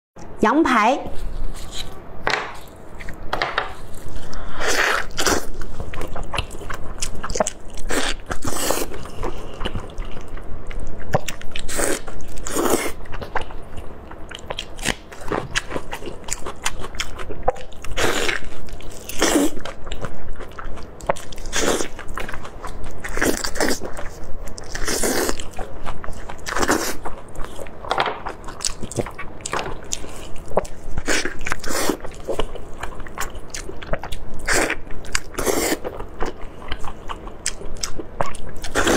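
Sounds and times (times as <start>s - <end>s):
biting and chewing food: 1.2s - 38.9s.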